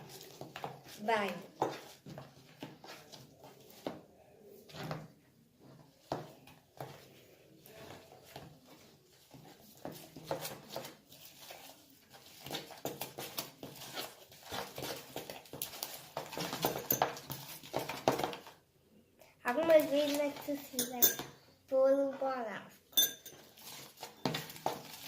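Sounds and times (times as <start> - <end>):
spoon stirring slime in bowl: 0.0 - 18.6, 19.5 - 21.5, 22.8 - 25.0.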